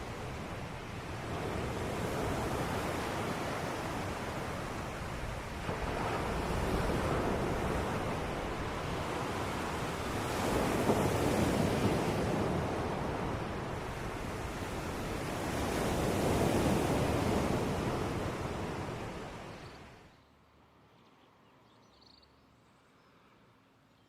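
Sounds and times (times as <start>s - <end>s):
ocean surf washing in: 0.0s - 20.0s.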